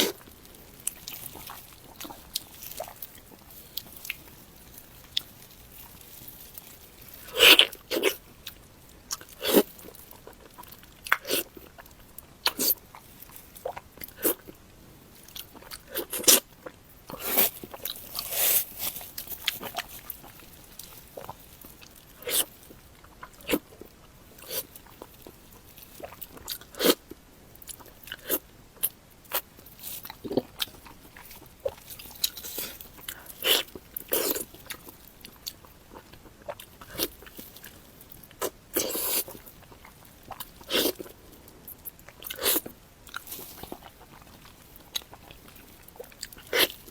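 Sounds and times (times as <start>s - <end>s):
biting and chewing: 0.0s - 46.9s.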